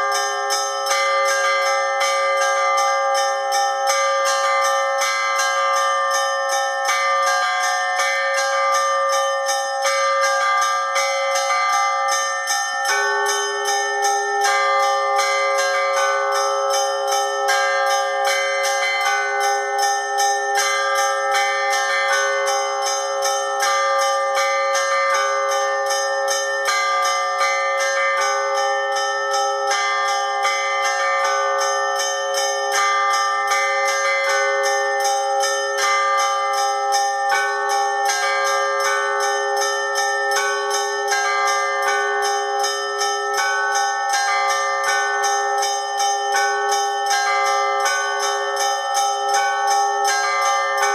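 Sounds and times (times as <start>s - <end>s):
large bells ringing: 0.0s - 50.9s
small church bells pealing: 0.0s - 50.9s.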